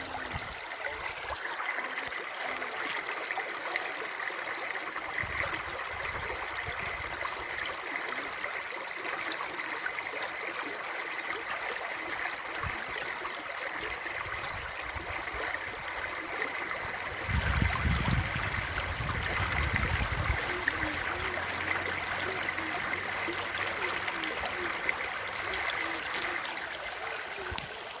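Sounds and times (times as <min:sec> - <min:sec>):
running water flowing: 0:00.0 - 0:28.0.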